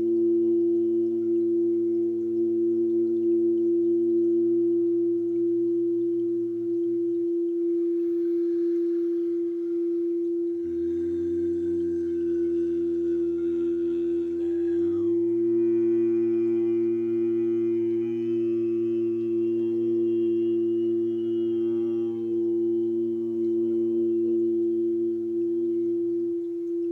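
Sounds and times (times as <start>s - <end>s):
long-held sung chant tones: 0.0s - 26.9s
steady pure tone drone: 0.0s - 26.9s.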